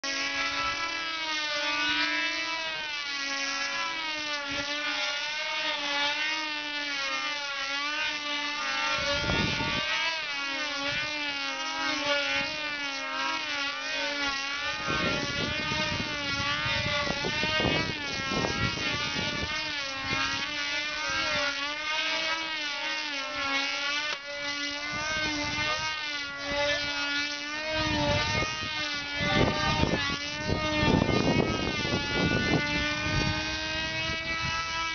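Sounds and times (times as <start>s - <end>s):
model plane engines buzzing: 0.0s - 34.9s.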